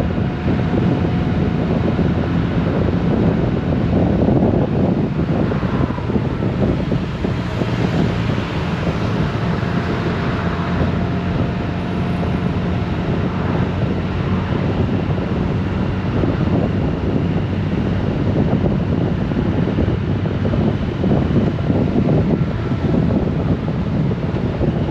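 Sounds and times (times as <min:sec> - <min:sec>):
motorcycle engine humming: 0:00.0 - 0:24.9
wind buffeting microphone: 0:00.0 - 0:24.9.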